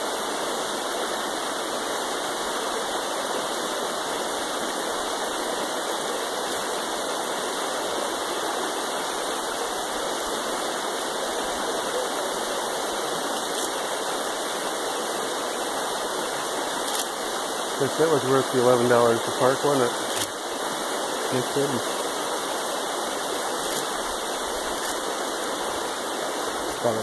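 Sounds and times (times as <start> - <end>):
river rushing over rocks: 0.0 - 27.0.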